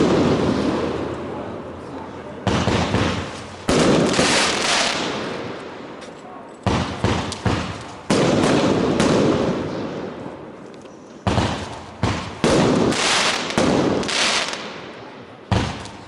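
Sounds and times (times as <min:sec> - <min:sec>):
fireworks bangs: 0:00.0 - 0:01.6, 0:02.4 - 0:06.0, 0:06.6 - 0:10.4, 0:11.2 - 0:16.0.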